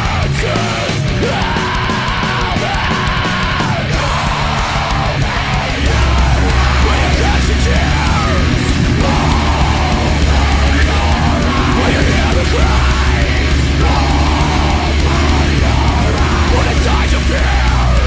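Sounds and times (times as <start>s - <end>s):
heavy metal music: 0.0s - 18.0s.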